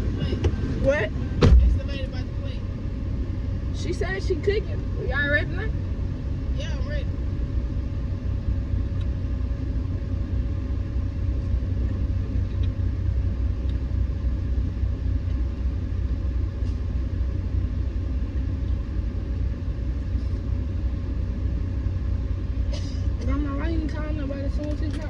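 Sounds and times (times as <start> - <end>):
car interior rumble: 0.0 - 25.0
faint steady hum: 0.0 - 25.0.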